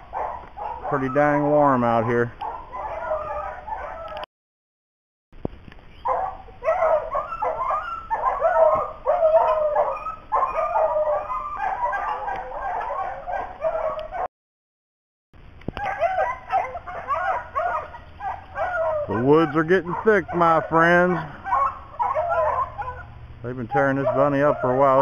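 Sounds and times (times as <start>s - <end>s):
hounds baying: 0.0s - 4.3s, 6.0s - 14.3s, 15.8s - 25.0s.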